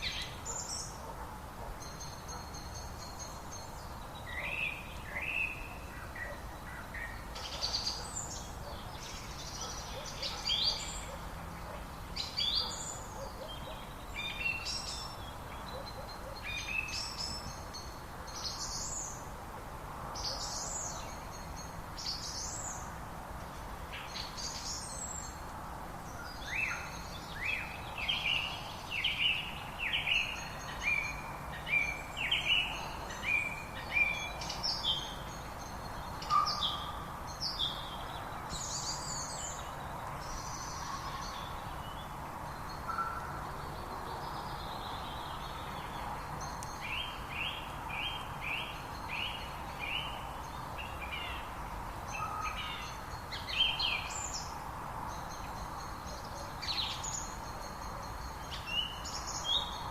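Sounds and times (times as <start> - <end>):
steady background hiss: 0.0 - 59.9
wild birds singing: 0.0 - 59.9.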